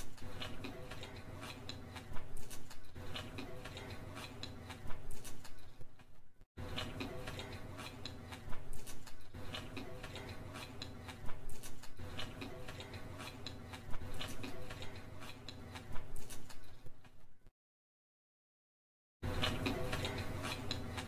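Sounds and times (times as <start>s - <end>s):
person chewing noodles: 0.0s - 17.3s, 19.2s - 21.0s.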